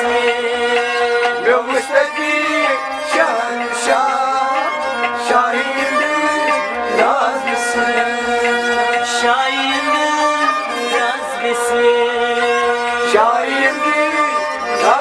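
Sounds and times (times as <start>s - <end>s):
instrumental accompaniment: 0.0s - 15.0s
man singing: 0.0s - 15.0s.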